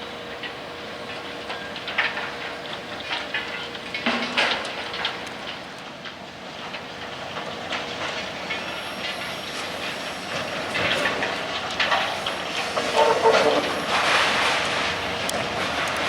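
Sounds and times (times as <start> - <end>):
rumble of rolling train cars: 0.0 - 16.0
train wheels clicking over rail joints: 0.4 - 16.0.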